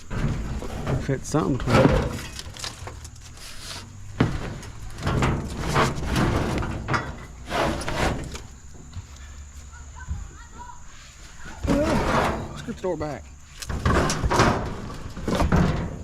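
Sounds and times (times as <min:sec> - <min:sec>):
scrap metal clunking and scraping: 0:00.0 - 0:16.0.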